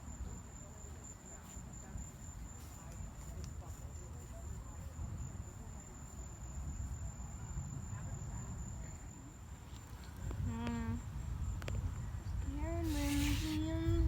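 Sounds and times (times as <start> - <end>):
cricket trill: 0.0 - 14.0.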